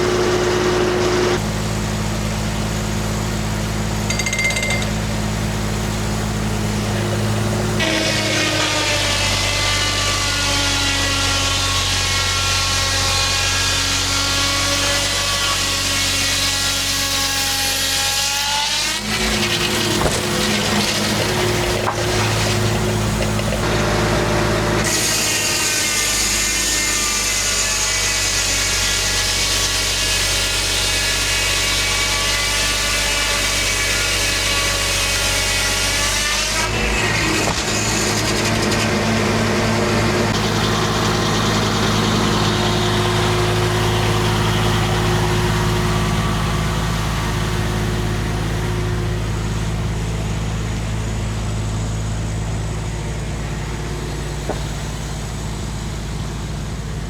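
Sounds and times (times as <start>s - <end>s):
circular saw cutting log: 0.0s - 57.0s
sawmill running hum: 0.0s - 57.0s.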